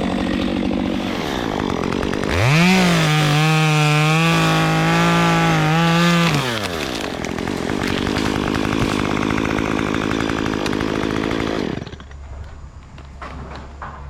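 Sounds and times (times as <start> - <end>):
chainsaw engine revving: 0.0 - 12.1.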